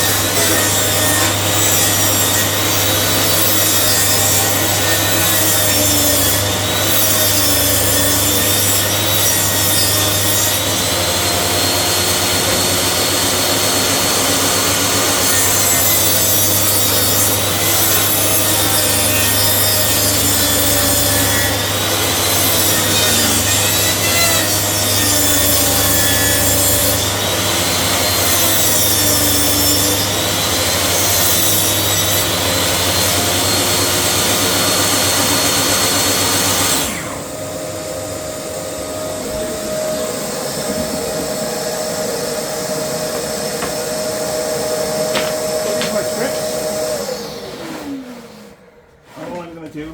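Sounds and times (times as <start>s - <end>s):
power saw cutting timber: 0.0s - 49.9s.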